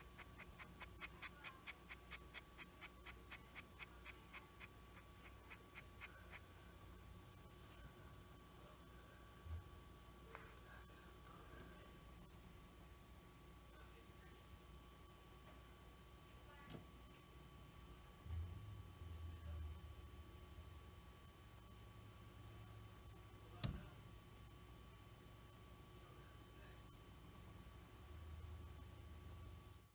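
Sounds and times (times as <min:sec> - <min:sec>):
cricket chirping: 0:00.0 - 0:29.9.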